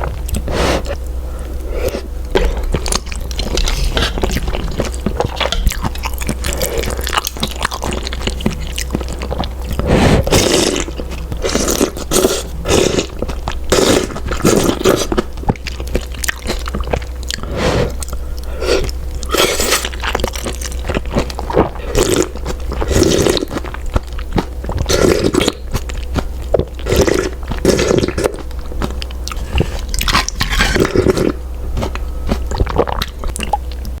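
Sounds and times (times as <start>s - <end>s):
person chewing noodles: 0.0s - 34.0s
steady low hum: 0.0s - 34.0s.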